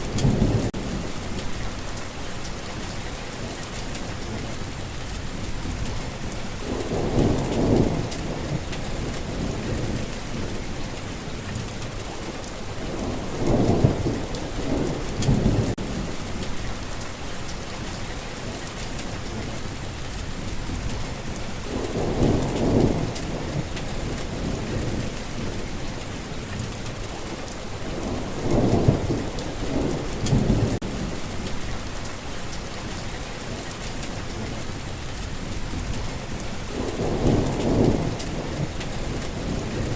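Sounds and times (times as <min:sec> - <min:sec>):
low rumbles of thunder: 0:00.0 - 0:32.3, 0:33.0 - 0:39.9
steady rain falling: 0:00.0 - 0:39.9.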